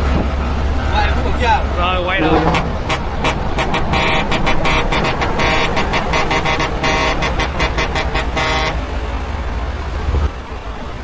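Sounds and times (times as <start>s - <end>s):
truck horn toots: 0.0s - 9.5s
truck engine rumbling: 0.0s - 11.0s.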